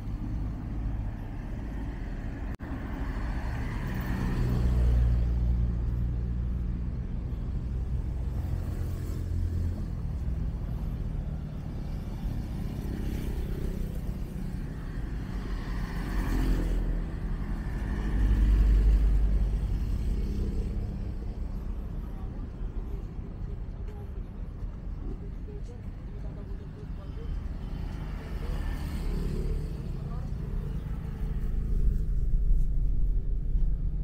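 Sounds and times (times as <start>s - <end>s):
vehicles passing: 0.0s - 34.0s.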